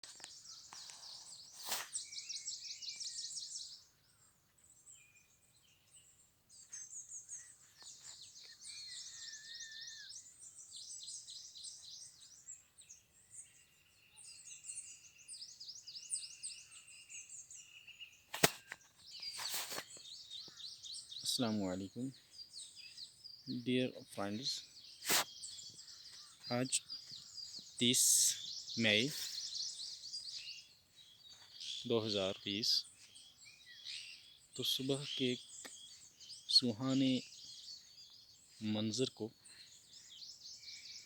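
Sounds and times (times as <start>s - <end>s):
wild birds singing: 0.0s - 41.0s.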